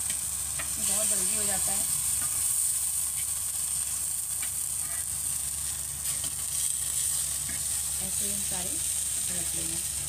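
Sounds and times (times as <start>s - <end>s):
slices sizzling in oil: 0.0s - 10.0s.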